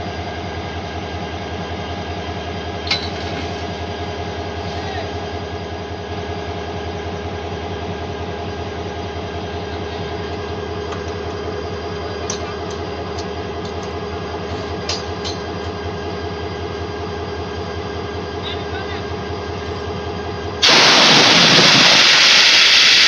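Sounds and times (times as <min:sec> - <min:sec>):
train engine hum: 0:00.0 - 0:23.0.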